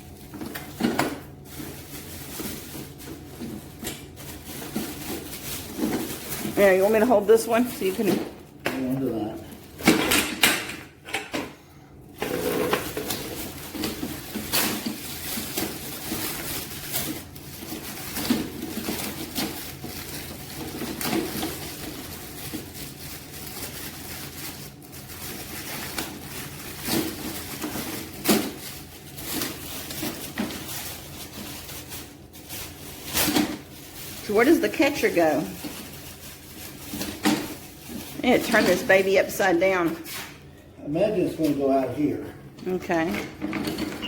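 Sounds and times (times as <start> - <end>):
scraping and rustling: 0.1 - 8.4, 12.2 - 40.4.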